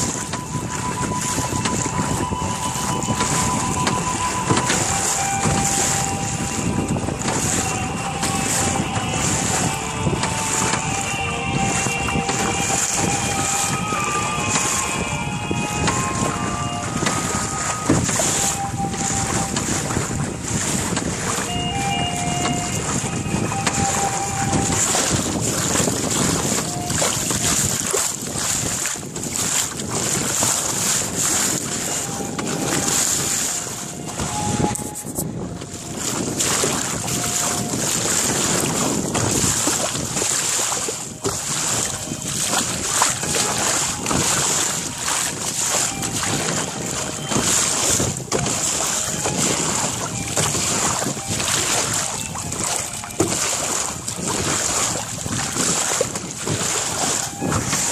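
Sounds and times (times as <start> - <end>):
water rushing along a boat bow: 0.0 - 57.9
wind buffeting microphone: 0.0 - 57.9.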